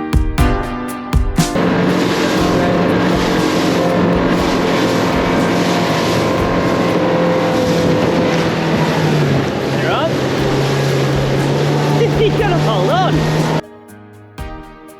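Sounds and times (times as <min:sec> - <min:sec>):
water rushing: 0:01.6 - 0:13.6.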